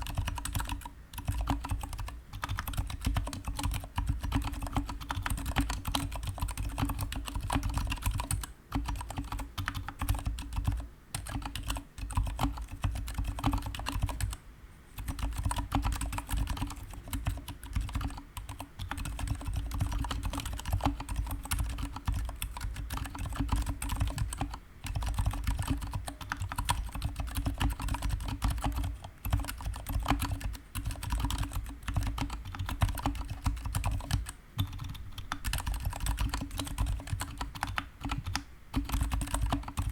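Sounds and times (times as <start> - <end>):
fast typing on mechanical keyboard: 0.0 - 14.4, 15.0 - 39.9.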